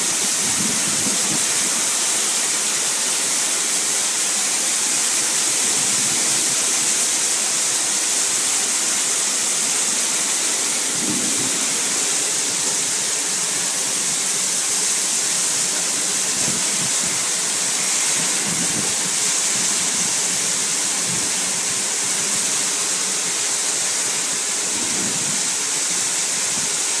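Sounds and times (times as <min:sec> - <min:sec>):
heavy rain pouring on roofs: 0:00.0 - 0:27.0.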